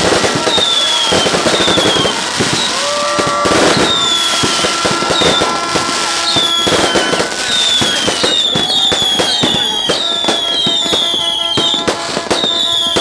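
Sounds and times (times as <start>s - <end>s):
fireworks bangs and crackles: 0.0s - 13.0s
fireworks whistles: 0.0s - 13.0s.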